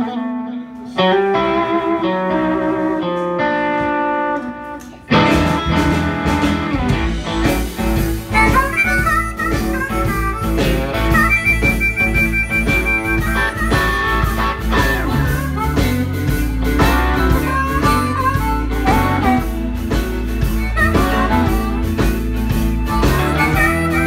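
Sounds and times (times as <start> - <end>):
amplified harmonica: 0.0 - 24.0
live blues band: 0.0 - 24.0.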